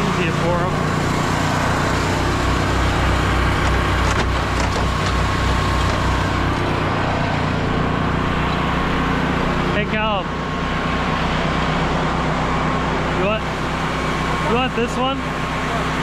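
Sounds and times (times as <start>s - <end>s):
pressure washer engine running: 0.0s - 16.0s.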